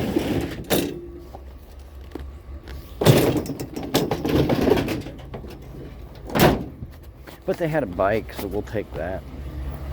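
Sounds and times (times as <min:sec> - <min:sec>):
vehicle idling: 0:00.0 - 0:09.9.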